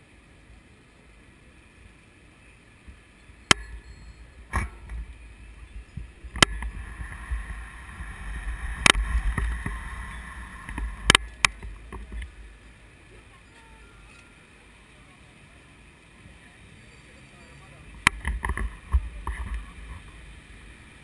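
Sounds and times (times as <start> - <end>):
wind and road rumble: 0.0 - 21.0.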